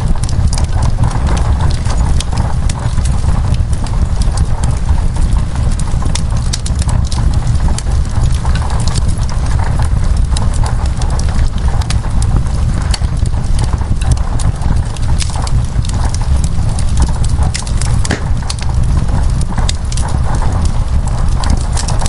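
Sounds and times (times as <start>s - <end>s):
rain on window glass: 0.0s - 22.0s
wood fire crackling and popping: 0.0s - 22.0s.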